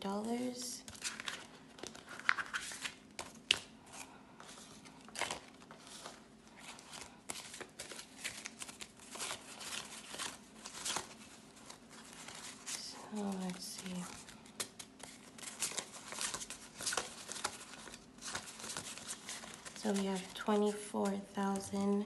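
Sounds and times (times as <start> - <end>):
banknotes rustling: 0.8 - 22.0.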